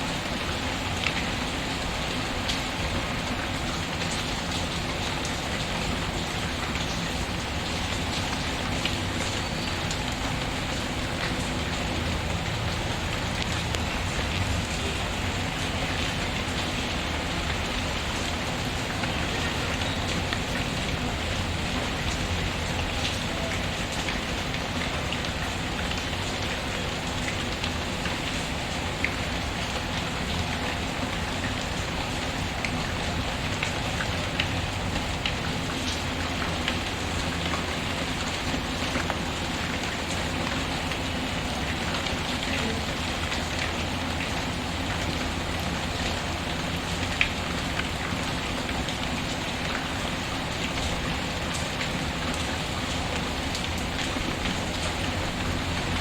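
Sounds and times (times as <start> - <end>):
rain patter: 0.0 - 56.0.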